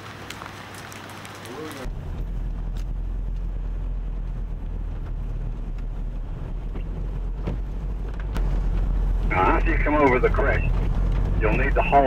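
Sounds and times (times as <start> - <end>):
vehicle engine droning: 1.5 - 12.0.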